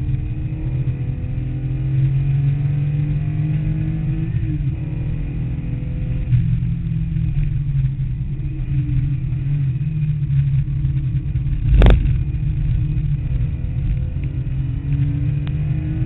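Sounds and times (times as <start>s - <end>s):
car engine deep rumble: 0.0s - 16.0s.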